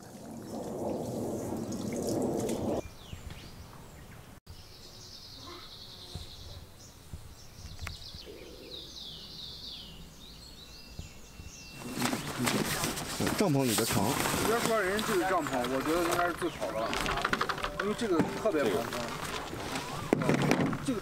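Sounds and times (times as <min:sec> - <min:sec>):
birds singing: 0:02.5 - 0:21.0.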